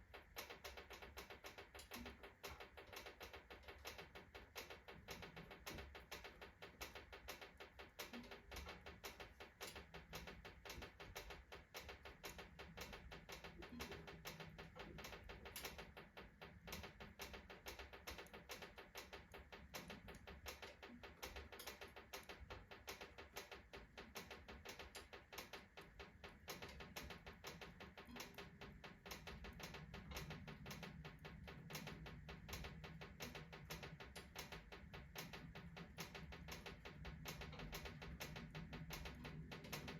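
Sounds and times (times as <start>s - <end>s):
iron stove ticking: 0.0s - 39.9s
wood fire crackling: 0.0s - 39.9s.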